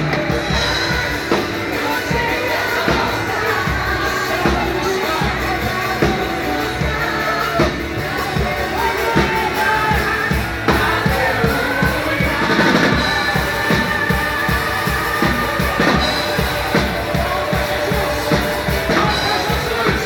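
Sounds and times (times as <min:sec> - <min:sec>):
drum kit beat: 0:00.0 - 0:20.0
people singing: 0:00.0 - 0:20.0
worship band playing: 0:00.0 - 0:20.0.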